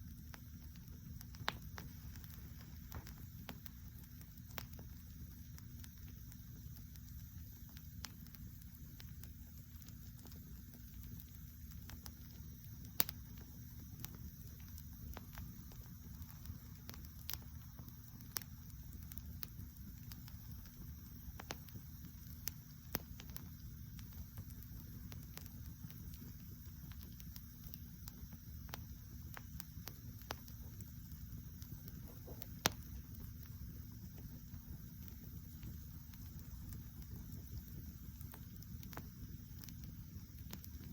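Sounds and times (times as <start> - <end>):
low steady fire rumble: 0.0 - 40.9
wood fire crackling and popping: 0.0 - 40.9.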